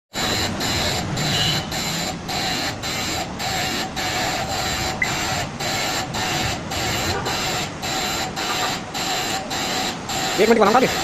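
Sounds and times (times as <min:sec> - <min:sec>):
grinding machine: 0:00.1 - 0:11.0.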